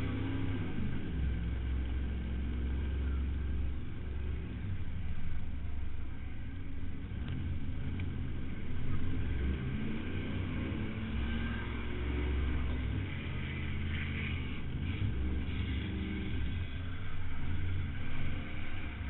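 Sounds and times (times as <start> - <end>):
car engine droning under load: 0.0 - 19.0.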